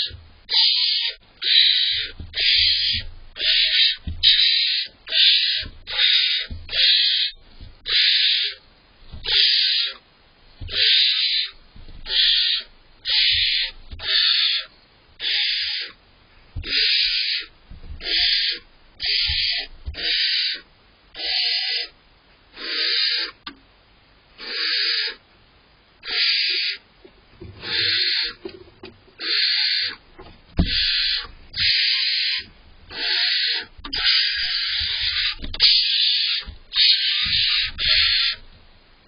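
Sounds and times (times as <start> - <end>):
owlets hissing begging calls: 0.0 - 8.6, 9.3 - 10.0, 10.6 - 16.0, 16.6 - 22.0, 22.6 - 23.4, 24.4 - 25.2, 26.0 - 26.8, 27.6 - 28.4, 29.2 - 30.0, 30.6 - 38.4.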